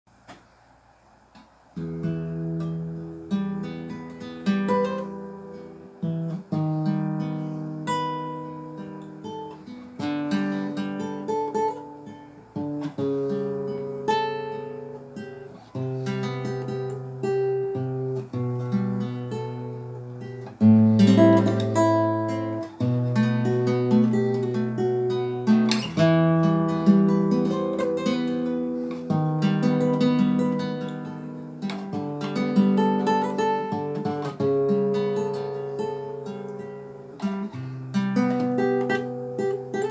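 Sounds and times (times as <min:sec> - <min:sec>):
acoustic guitar melody: 0:01.3 - 0:39.9.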